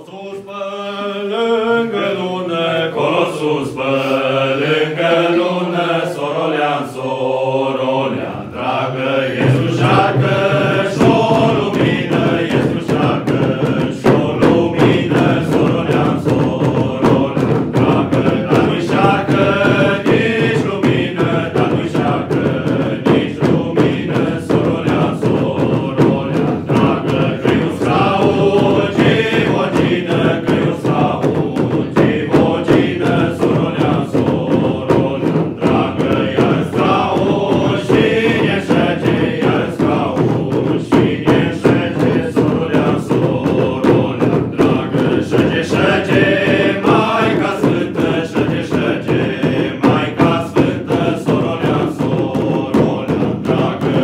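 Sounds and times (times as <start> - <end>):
men singing in unison: 0.0 - 54.0
frame drums beating fast: 1.3 - 54.0.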